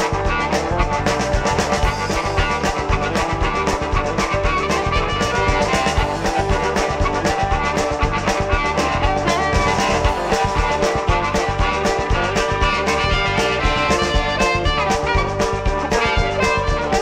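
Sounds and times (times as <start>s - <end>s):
blues band playing: 0.0s - 17.0s
drums keeping a steady beat: 0.0s - 17.0s.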